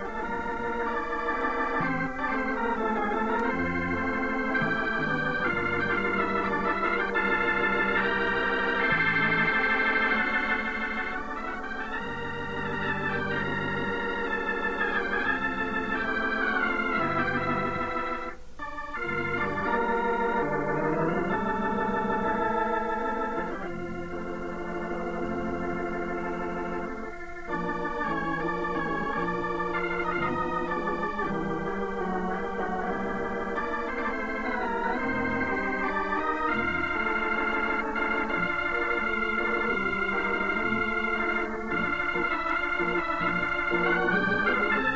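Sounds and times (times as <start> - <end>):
organ music: 0.0 - 44.9.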